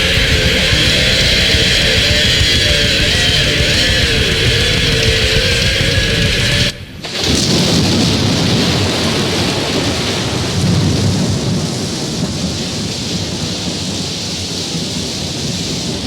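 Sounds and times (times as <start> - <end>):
heavy rain hiss: 0.0 - 16.0
rolling thunder: 0.0 - 16.0.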